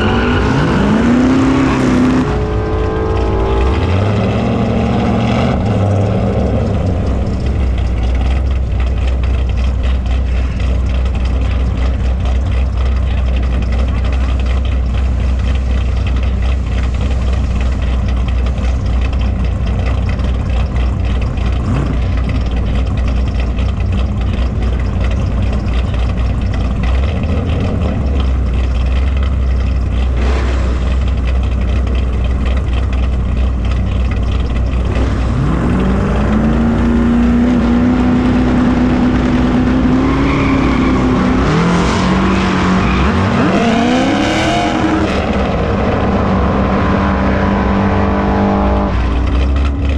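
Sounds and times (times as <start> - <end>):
car engine rumbling and revving: 0.0 - 49.9.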